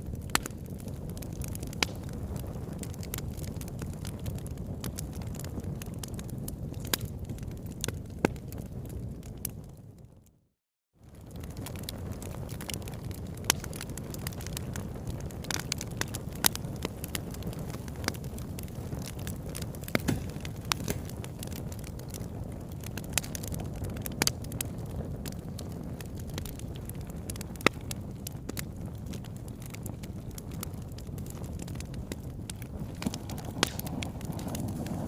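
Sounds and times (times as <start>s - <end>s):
sharp crackles and pops: 0.0s - 10.4s, 11.0s - 35.0s.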